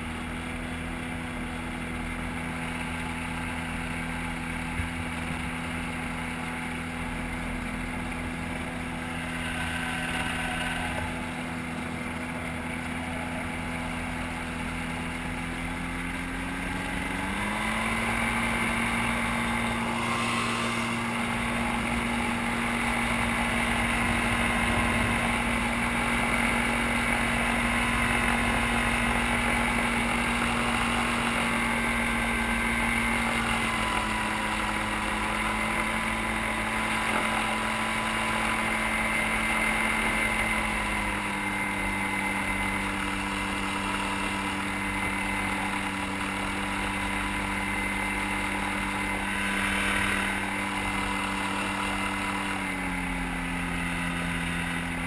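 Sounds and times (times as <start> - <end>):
gyrocopter engine running: 0.0 - 55.0.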